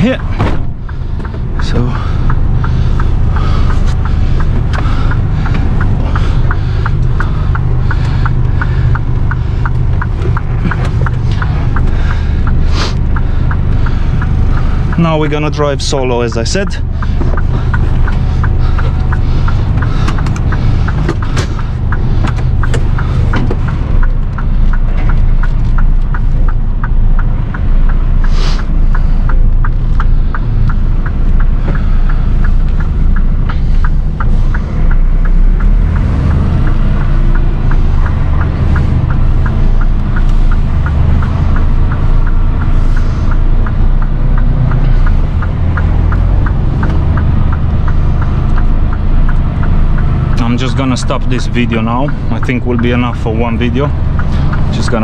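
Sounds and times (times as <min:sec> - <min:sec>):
regular ticking: 0:00.0 - 0:55.0
truck diesel engine rumble: 0:00.0 - 0:55.0.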